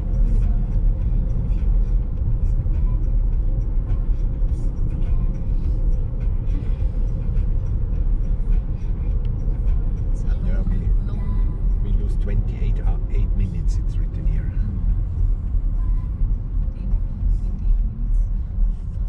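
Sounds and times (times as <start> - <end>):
tyre and engine rumble: 0.0 - 19.0.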